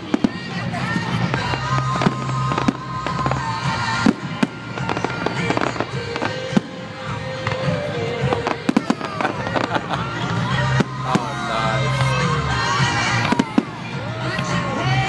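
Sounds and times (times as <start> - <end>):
fireworks bangs: 0.0 - 13.9
fireworks crackling and hissing: 0.0 - 15.0
music: 0.0 - 15.0.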